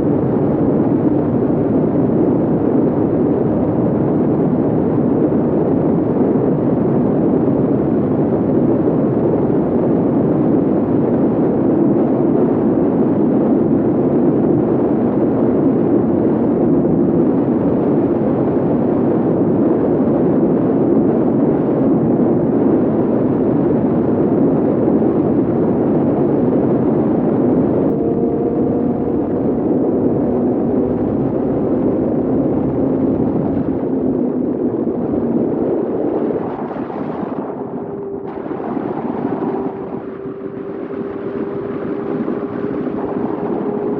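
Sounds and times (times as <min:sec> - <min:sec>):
motorcycle engine at high speed: 0:00.0 - 0:43.9
wind rush: 0:00.0 - 0:43.9.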